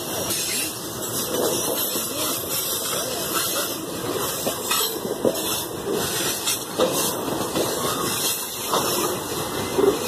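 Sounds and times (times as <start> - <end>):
freight wagons rumbling on rails: 0.0 - 10.0
wheels clacking over rail joints: 0.0 - 10.0.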